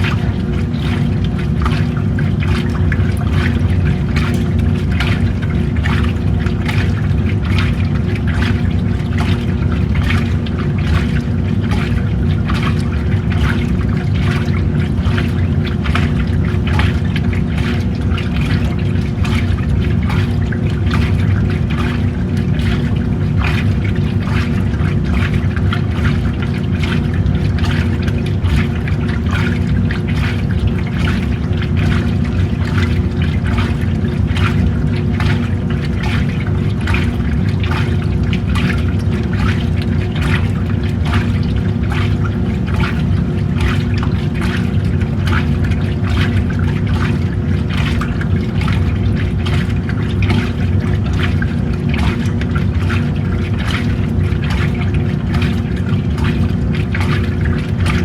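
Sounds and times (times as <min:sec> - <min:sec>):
washing machine motor hum: 0:00.0 - 0:58.0
water sloshing in tub: 0:00.0 - 0:58.0.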